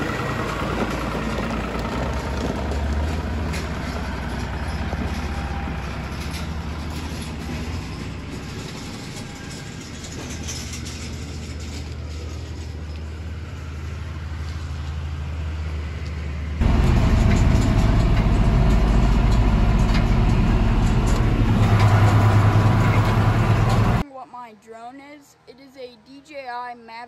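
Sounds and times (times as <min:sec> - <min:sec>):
tractor diesel engine drone: 0:00.0 - 0:24.0
road noise: 0:00.0 - 0:24.1.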